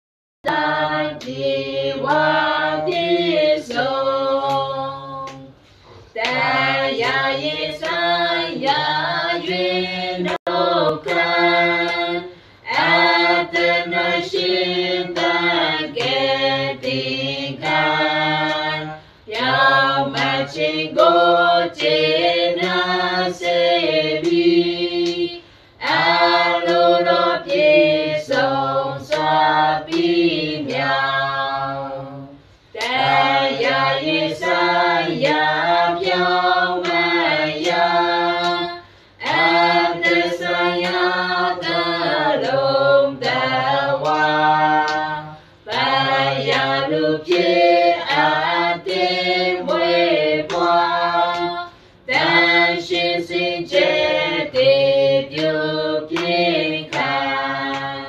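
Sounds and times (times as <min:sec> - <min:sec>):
hand claps: 0:00.4 - 0:31.0, 0:32.8 - 0:58.0
group singing a hymn: 0:00.4 - 0:58.0.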